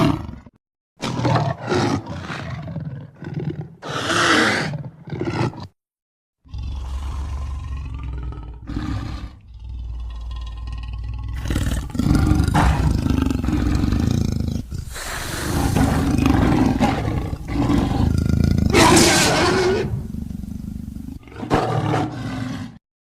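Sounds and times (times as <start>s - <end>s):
big cat growling and roaring: 0.0s - 5.8s, 6.4s - 22.8s.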